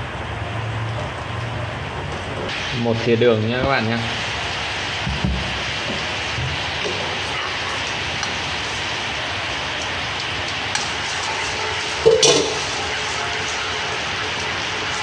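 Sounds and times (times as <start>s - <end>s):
oil sizzling in a frying pan: 0.0s - 15.0s.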